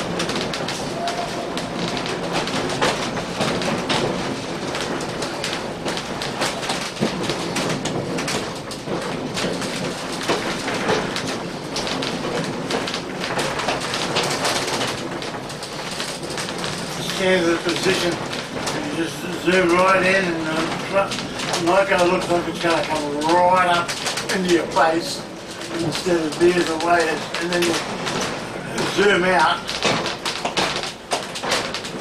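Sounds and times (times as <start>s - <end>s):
railway carriage rumbling and rattling: 0.0s - 32.0s
wheel clicks and knocks: 0.0s - 32.0s.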